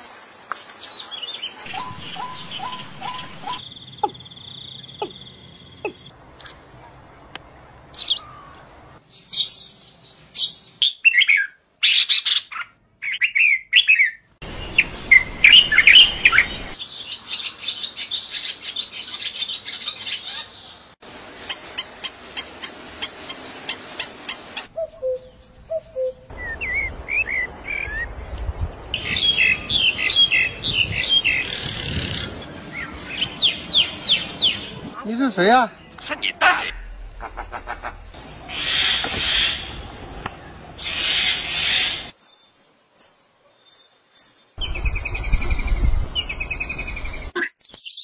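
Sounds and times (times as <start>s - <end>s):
small birds chirping: 0.5s - 48.0s.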